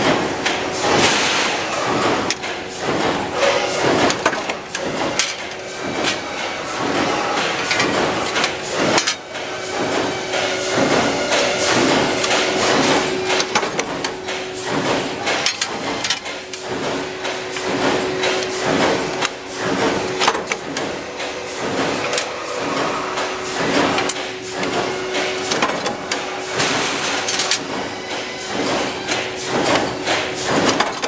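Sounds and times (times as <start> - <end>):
punch press humming: 0.0 - 31.0
sharp metallic stamping strokes: 0.0 - 31.0.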